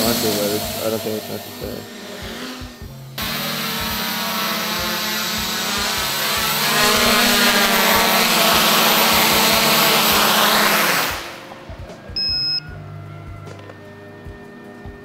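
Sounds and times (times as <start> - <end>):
quadcopter motors buzzing: 0.0 - 12.6.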